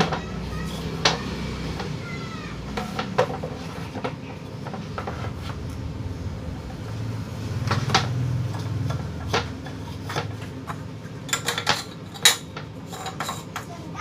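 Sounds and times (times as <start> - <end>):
fan parts clicking and knocking: 0.0 - 14.0.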